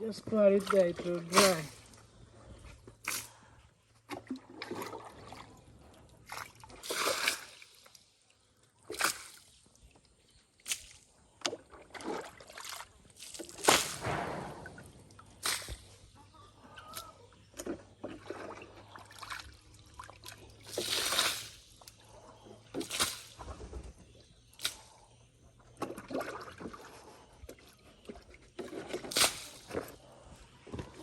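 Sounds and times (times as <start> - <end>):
water sloshing and splashing: 0.1 - 16.1, 16.7 - 25.0, 25.6 - 30.2.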